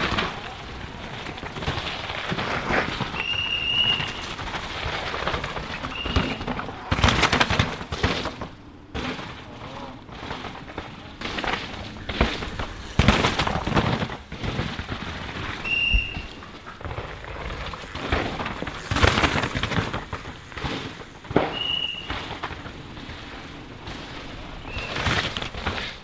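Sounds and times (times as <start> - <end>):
mountain bikes rattling over rocks: 0.0 - 26.0.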